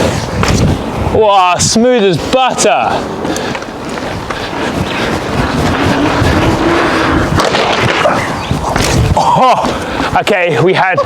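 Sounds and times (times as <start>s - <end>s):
bike tyres and air rushing: 0.0s - 10.7s.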